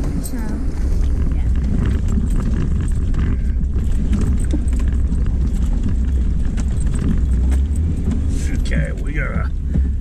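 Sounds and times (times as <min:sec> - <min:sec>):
engine low rumble: 0:00.0 - 0:10.0.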